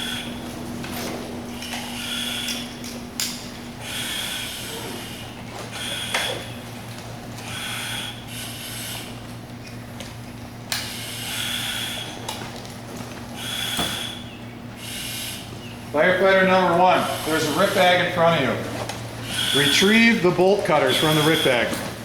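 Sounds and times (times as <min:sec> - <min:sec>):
breathing regulator hissing: 0:00.0 - 0:00.8, 0:01.5 - 0:09.8, 0:10.8 - 0:12.5, 0:13.3 - 0:21.9.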